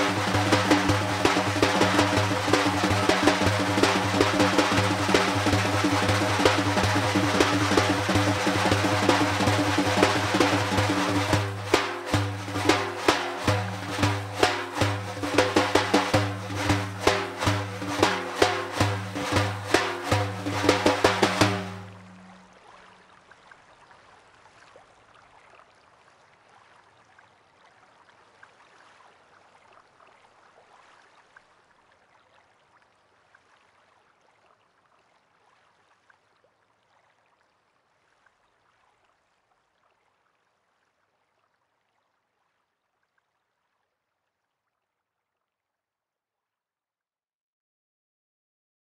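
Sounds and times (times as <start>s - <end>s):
faint rain pattering: 0.0s - 44.4s.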